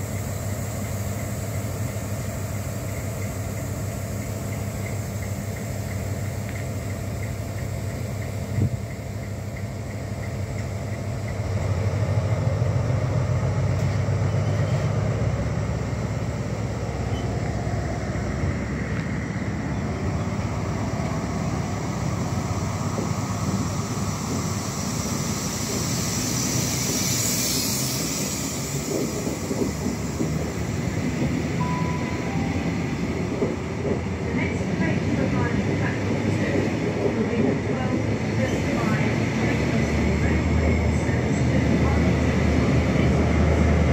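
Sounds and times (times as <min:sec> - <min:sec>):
train coaches rumbling on rails: 0:00.0 - 0:43.9.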